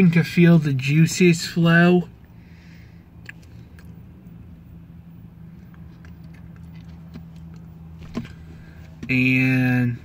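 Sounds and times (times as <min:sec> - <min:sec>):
low car cabin hum: 0:00.0 - 0:10.0.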